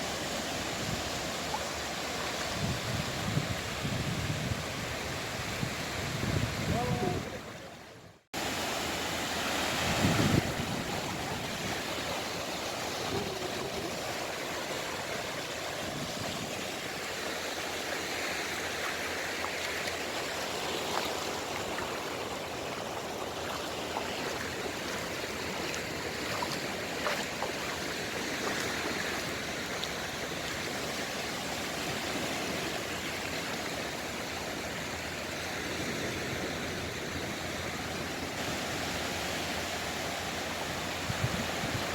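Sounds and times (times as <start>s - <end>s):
sea waves breaking on shore: 0.0s - 41.9s.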